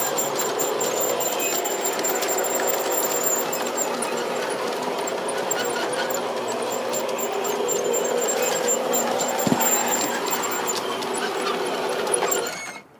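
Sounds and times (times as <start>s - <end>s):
model train motor humming: 0.0s - 12.9s.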